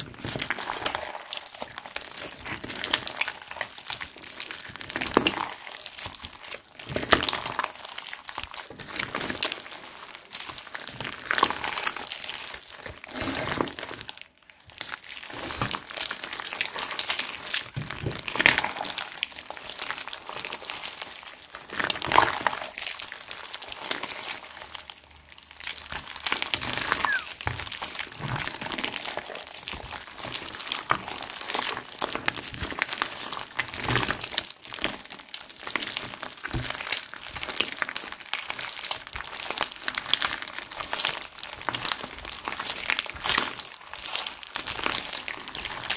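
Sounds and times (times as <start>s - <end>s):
slime squelching: 0.0s - 45.9s.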